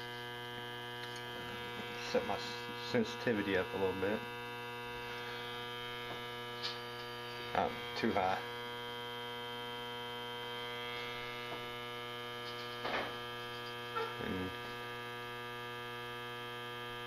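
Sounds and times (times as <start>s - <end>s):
leak detector buzzy hum: 0.0s - 17.0s.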